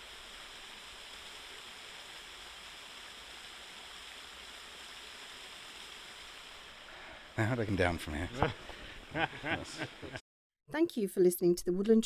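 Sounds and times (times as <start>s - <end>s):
stream water running: 0.0s - 10.2s.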